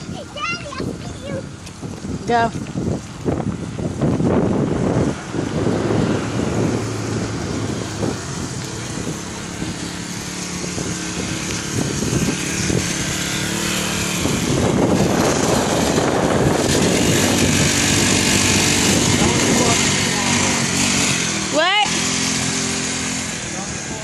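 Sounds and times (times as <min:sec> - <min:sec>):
small engine buzzing: 0:00.0 - 0:24.0.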